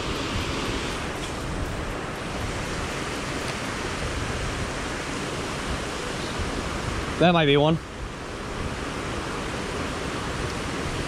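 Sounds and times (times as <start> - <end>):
water rushing over spillway: 0.0 - 11.0.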